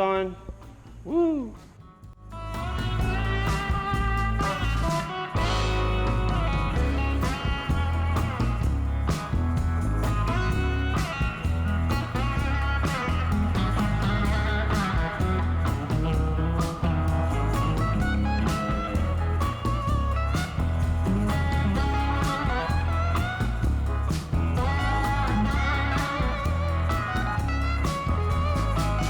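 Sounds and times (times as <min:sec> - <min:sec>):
blues-rock music: 0:00.0 - 0:29.0.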